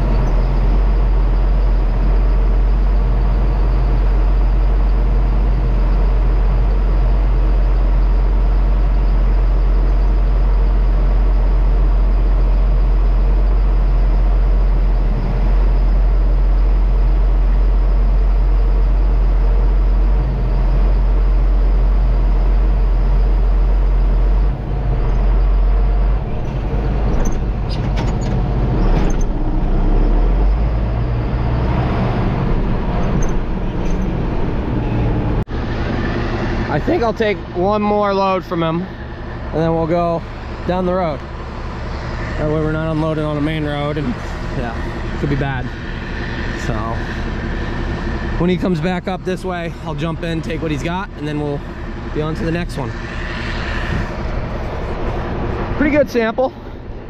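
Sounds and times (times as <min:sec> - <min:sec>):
tractor engine droning: 0:00.0 - 0:57.0.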